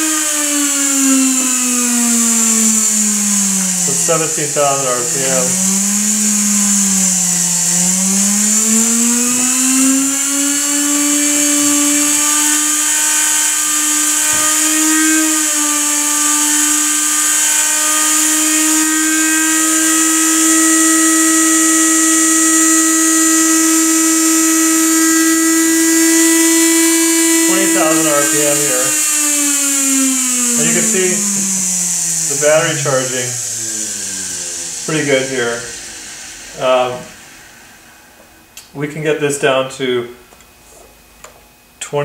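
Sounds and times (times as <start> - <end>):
small motor whining at high speed: 0.0 - 39.4.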